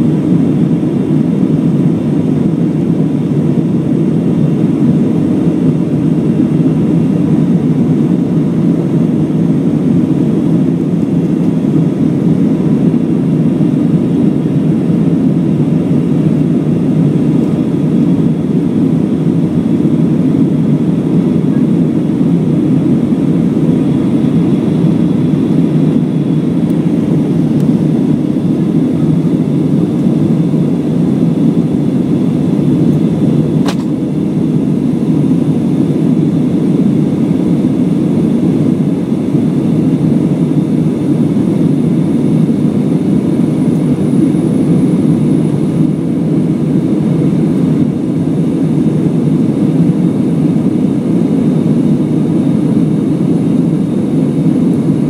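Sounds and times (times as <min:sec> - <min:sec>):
faint steady whine: 0:00.0 - 0:55.0
jet engines and airflow rush: 0:00.0 - 0:55.0.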